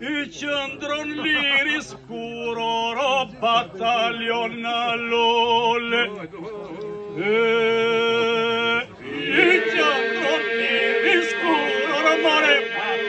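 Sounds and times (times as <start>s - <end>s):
men and women singing in parts: 1.9s - 13.0s.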